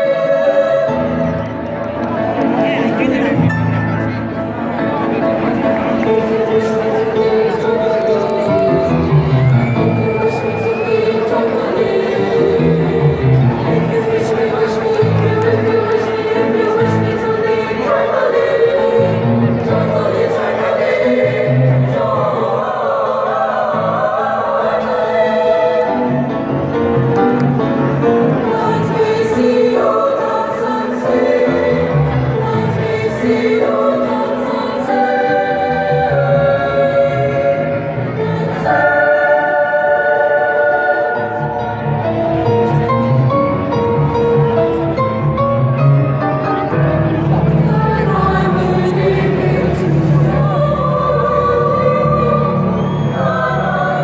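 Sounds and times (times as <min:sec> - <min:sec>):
choir singing held chords: 0:00.0 - 0:02.5, 0:04.4 - 0:54.0.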